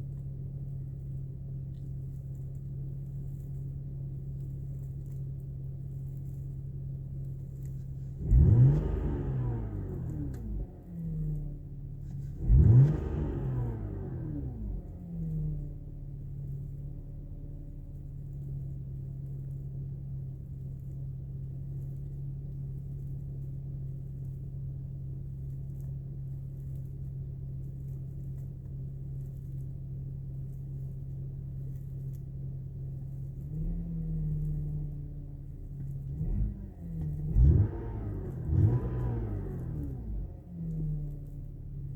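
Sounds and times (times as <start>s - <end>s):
car engine revving and idling: 0.0s - 41.9s.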